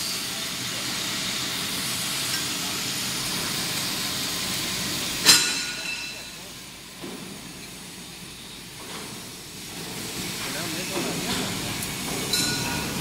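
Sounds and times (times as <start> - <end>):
welding rig hissing rush: 0.0 - 13.0.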